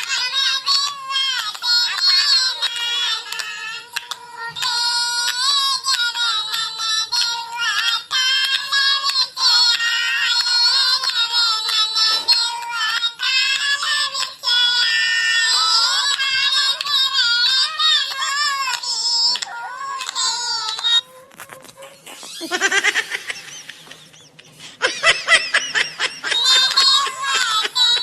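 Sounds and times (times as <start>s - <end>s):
high-pitched artificial singing voice: 0.0s - 22.8s, 26.3s - 28.0s.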